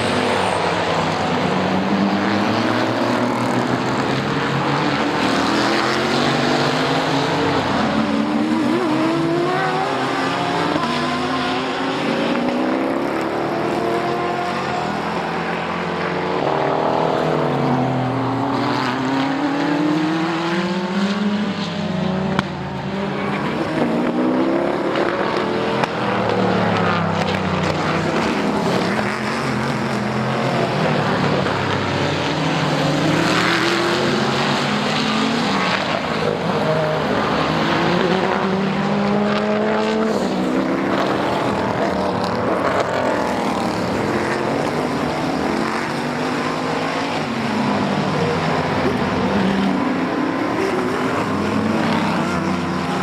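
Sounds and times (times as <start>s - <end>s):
race car engines passing: 0.0s - 53.0s.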